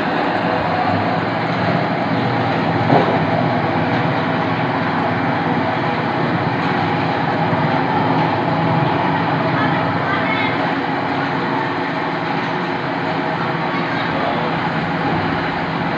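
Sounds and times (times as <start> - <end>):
mechanical drone with low hum: 0.0 - 15.9.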